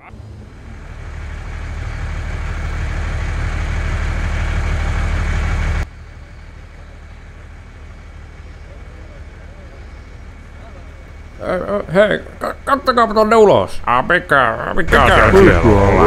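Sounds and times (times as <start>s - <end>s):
faint engine rumble: 0.0s - 16.0s
heavy vehicle engine rumbling: 0.0s - 16.0s.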